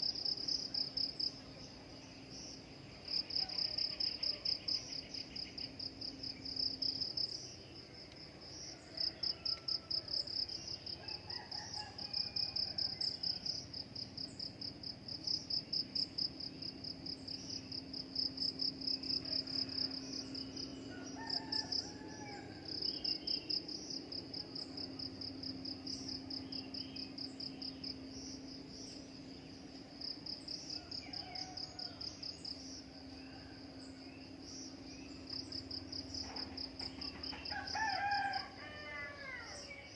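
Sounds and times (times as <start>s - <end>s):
insect chirping: 0.0s - 39.9s
low steady hum: 0.0s - 39.9s.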